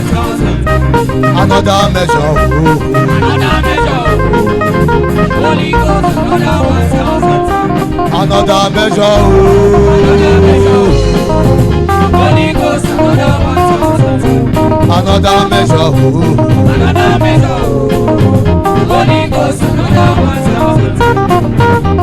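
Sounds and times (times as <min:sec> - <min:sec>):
upbeat band music with guitar: 0:00.0 - 0:22.0.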